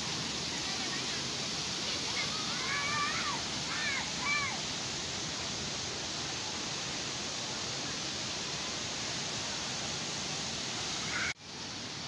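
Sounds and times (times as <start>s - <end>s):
rush of flowing water: 0.0s - 12.0s
waterfall rushing: 0.0s - 12.0s.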